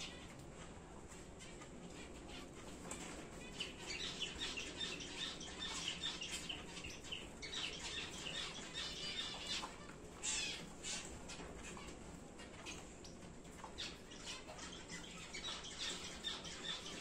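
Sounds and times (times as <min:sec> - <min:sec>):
finches chirping: 0:01.3 - 0:17.0.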